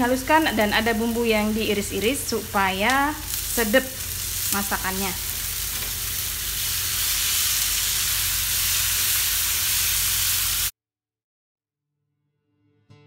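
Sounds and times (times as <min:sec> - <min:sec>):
paste sizzling in hot oil: 0:00.0 - 0:10.7.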